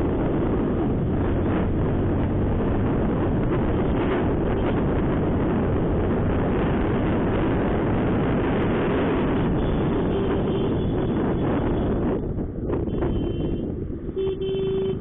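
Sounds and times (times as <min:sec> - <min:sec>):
road noise: 0:00.0 - 0:15.0
wind rush on microphone: 0:00.0 - 0:15.0.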